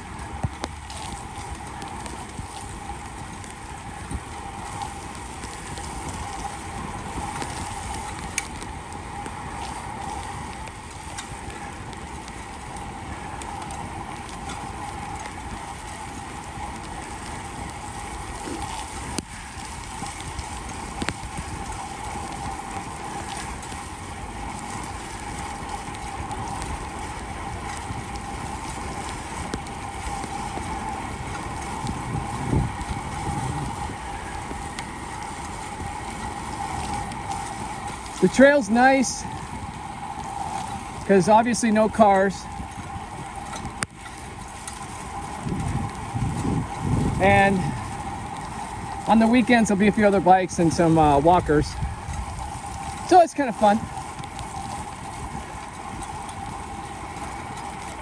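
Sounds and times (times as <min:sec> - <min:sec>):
bicycle whirring: 0:00.0 - 0:58.0
tyres hissing on wet pavement: 0:00.0 - 0:58.0
wind: 0:00.0 - 0:58.0.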